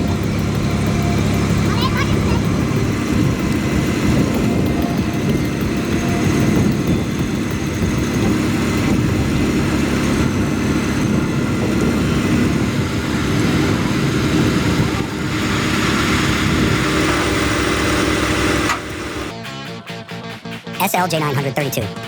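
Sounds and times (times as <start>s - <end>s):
heavy vehicle engine running: 0.0s - 19.3s.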